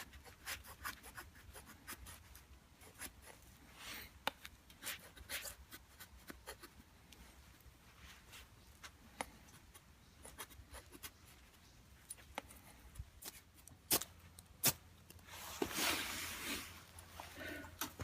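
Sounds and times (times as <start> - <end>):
scratching on rope tinder: 0.0 - 17.2.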